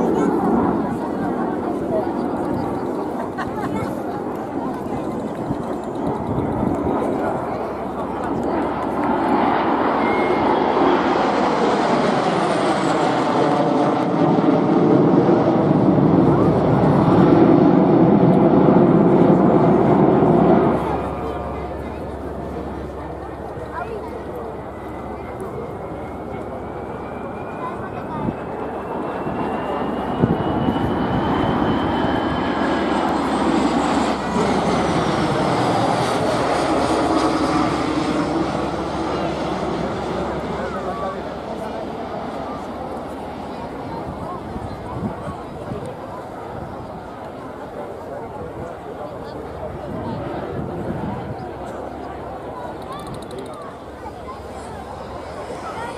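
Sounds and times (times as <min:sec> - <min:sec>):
jet flying overhead: 0:00.0 - 0:55.9.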